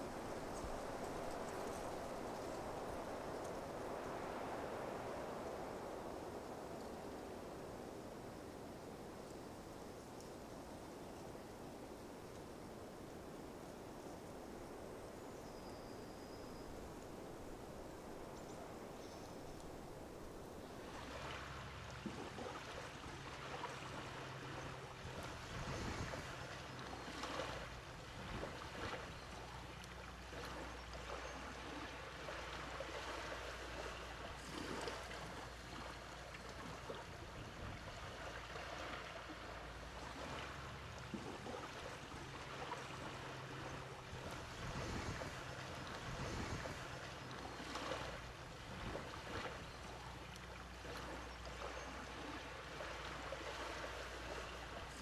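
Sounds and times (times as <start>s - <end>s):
small waves surging: 0.0s - 55.0s
water lapping on a beach: 0.0s - 55.0s.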